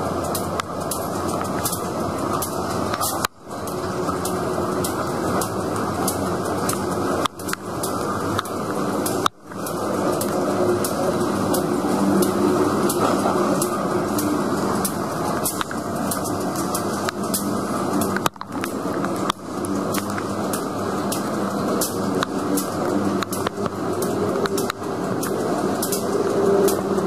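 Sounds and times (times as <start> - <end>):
diesel locomotive running: 0.0 - 27.0
freight cars rumbling on rails: 0.0 - 27.0.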